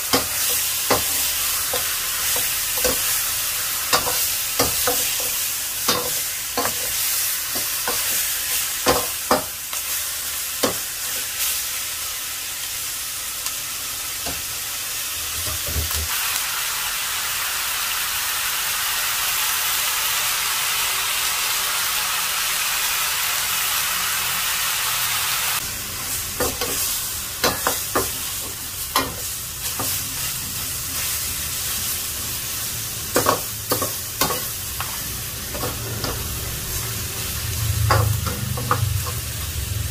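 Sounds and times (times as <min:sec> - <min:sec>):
meat sizzling in a wok: 0:00.0 - 0:39.9.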